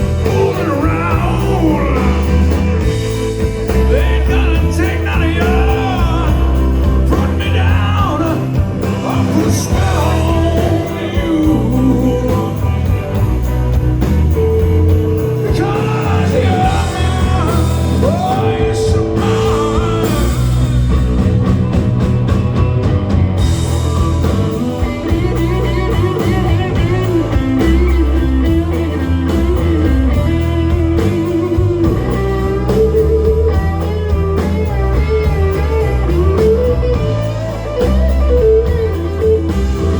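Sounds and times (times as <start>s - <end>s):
rock music with singing: 0.0s - 39.9s
sustained guitar melody: 0.0s - 39.9s.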